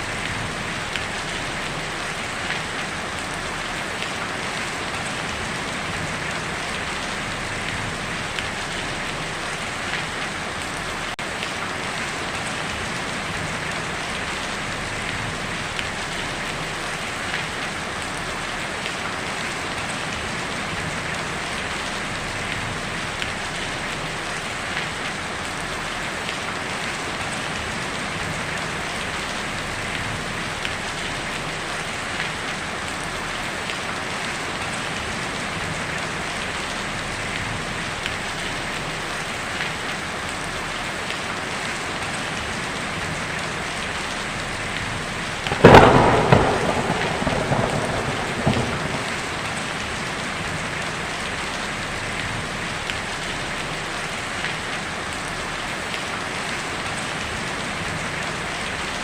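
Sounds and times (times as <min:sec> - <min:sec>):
heavy rain on a tin roof: 0:00.0 - 0:59.0.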